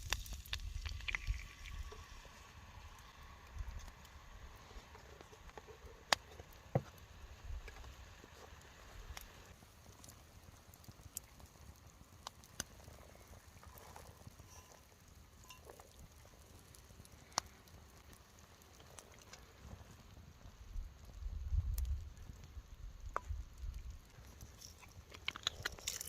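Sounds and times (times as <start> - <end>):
campfire crackling and popping: 0.0 - 26.0
low steady hiss: 0.0 - 26.0.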